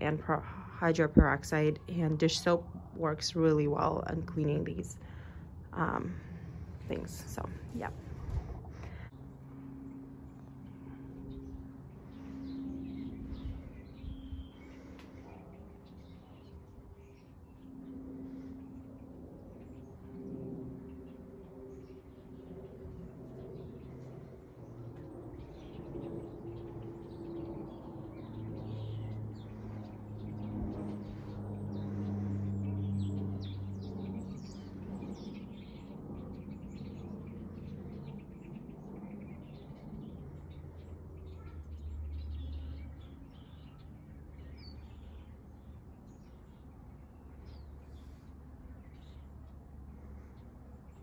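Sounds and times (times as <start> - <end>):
low steady hum: 0.0 - 51.0
small birds chirping: 9.7 - 51.0.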